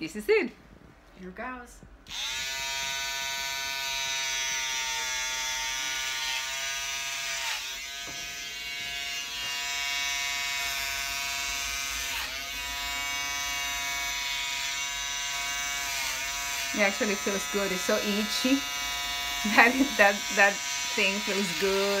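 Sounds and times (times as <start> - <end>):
electric hair clippers running: 2.1 - 22.0.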